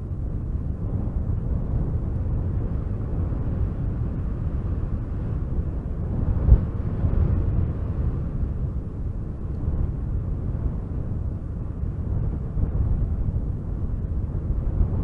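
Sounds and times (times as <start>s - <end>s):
wind rumbling: 0.0s - 15.0s.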